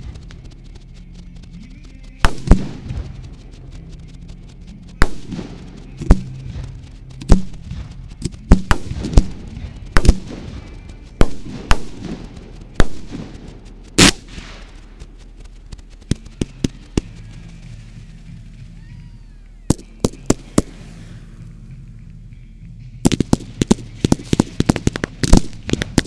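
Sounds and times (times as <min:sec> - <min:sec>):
small firework cracks: 0:00.0 - 0:04.0, 0:04.6 - 0:18.3, 0:19.4 - 0:21.2, 0:23.0 - 0:26.0
fireworks blast: 0:00.0 - 0:21.8, 0:23.0 - 0:26.0
fireworks bangs: 0:01.6 - 0:04.0, 0:04.6 - 0:18.7, 0:19.7 - 0:21.2, 0:23.0 - 0:26.0.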